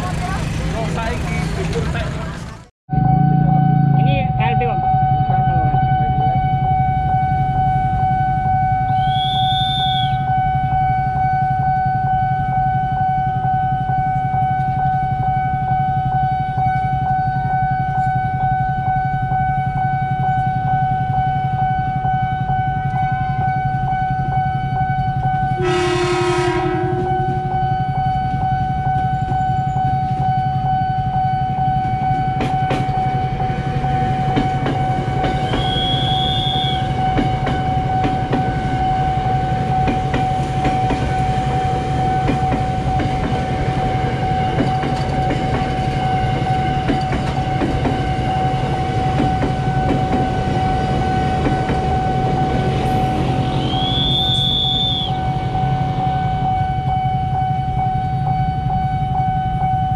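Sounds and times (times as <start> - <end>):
train rumbling: 0.0 - 59.9
train horn blast: 2.9 - 57.5
high warning tone: 2.9 - 59.9.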